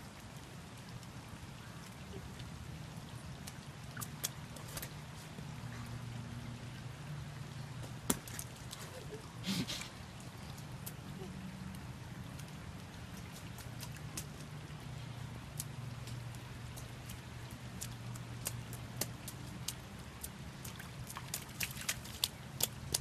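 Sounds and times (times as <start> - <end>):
low steady hum: 0.0 - 23.0
raindrops ticking: 0.0 - 23.0
steady rain: 0.0 - 23.0.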